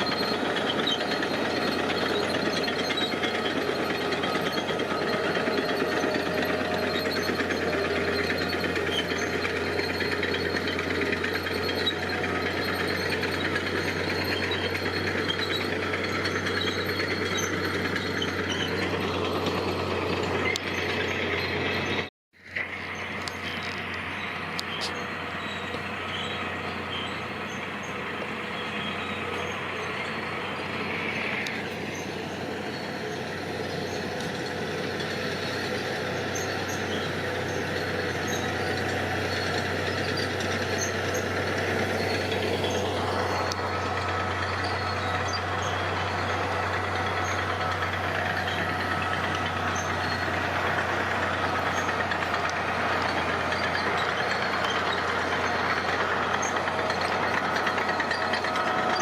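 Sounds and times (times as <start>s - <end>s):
heavy machinery engine running: 0.0s - 59.0s.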